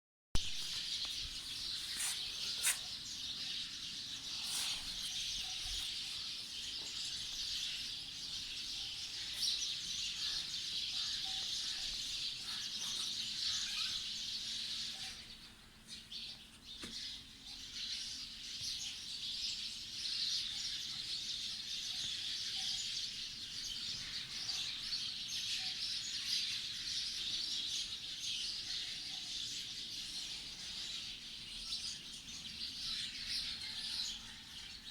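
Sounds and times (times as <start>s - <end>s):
many small birds chirping: 0.4s - 34.9s.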